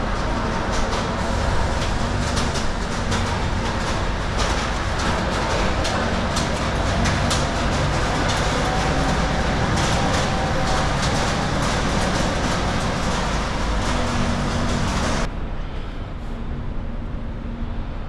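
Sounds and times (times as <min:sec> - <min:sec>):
rattles and clanks: 0:00.0 - 0:16.4
truck engine running: 0:00.0 - 0:18.0.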